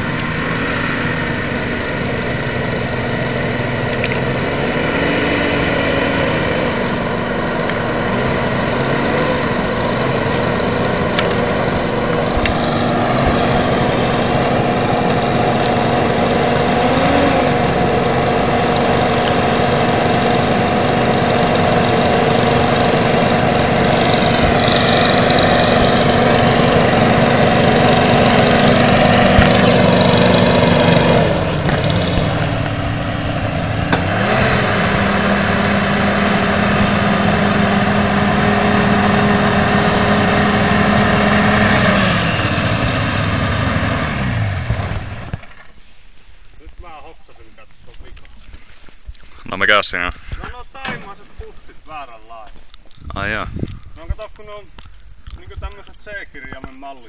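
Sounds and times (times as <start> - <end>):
hovercraft engine and fan: 0.0 - 45.8.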